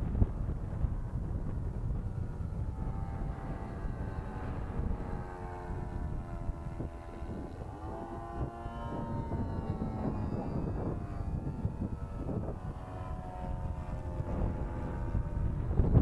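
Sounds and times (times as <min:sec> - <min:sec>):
model airplane engine buzzing: 0:00.0 - 0:16.0
wind noise on microphone: 0:00.0 - 0:16.0.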